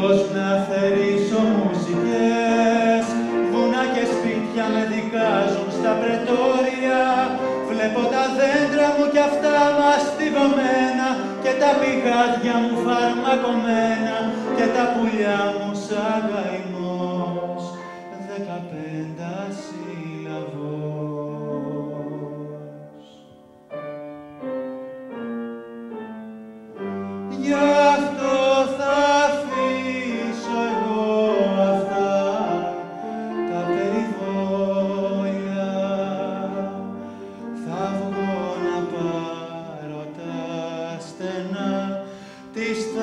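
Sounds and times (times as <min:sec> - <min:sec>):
man singing with instruments: 0:00.0 - 0:23.3, 0:27.3 - 0:43.0.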